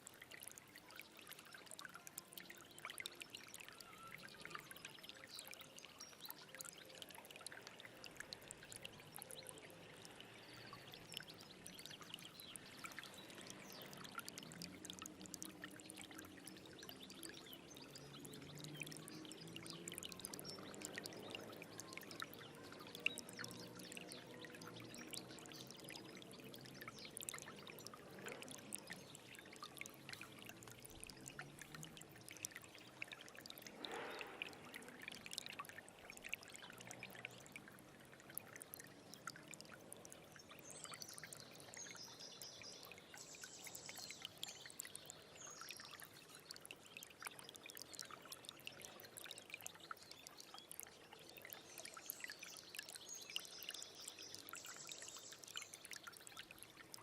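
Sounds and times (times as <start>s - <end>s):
stream trickling over stones: 0.0s - 57.0s.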